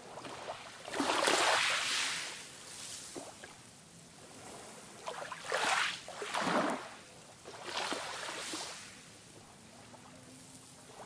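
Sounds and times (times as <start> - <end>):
small waves lapping: 0.0 - 11.0.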